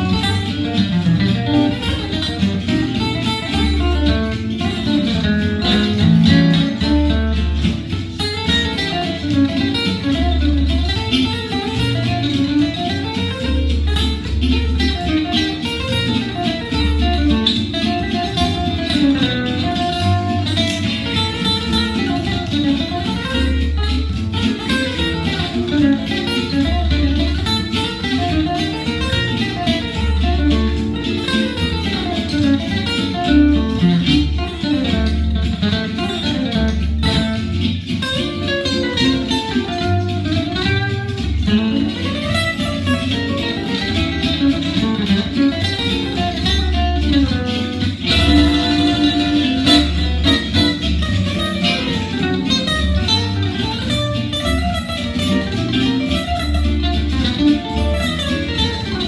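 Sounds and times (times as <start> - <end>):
fast picked jazz guitar: 0.0 - 59.0.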